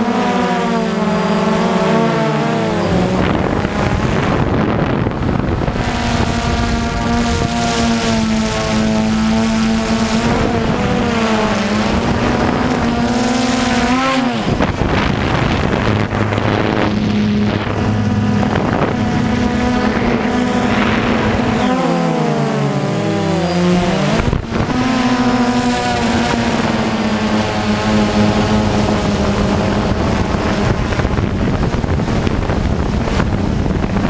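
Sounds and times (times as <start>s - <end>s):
drone propellers whining: 0.0s - 34.0s.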